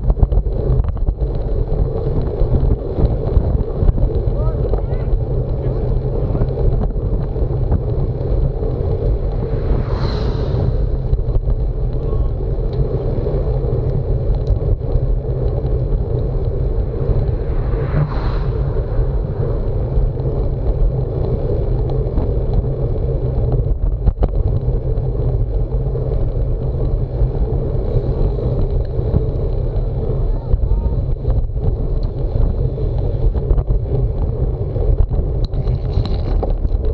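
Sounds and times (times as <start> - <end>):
tyre and road noise: 0.0 - 36.9
wind buffeting microphone: 0.0 - 36.9.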